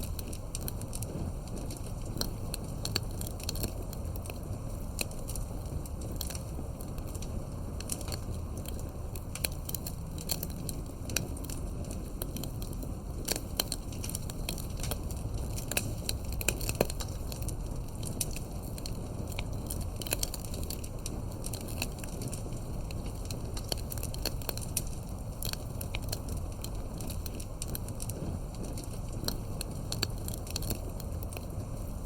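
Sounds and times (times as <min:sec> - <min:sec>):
campfire crackling and popping: 0:00.0 - 0:32.0.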